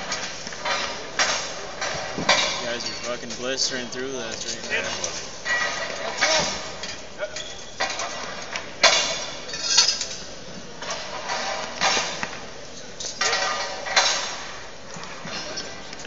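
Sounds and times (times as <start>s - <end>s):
steel members clanking: 0.0s - 15.8s.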